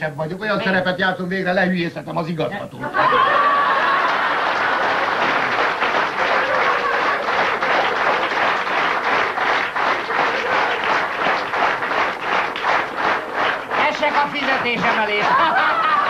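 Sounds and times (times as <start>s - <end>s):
audience applauding: 2.9s - 16.0s.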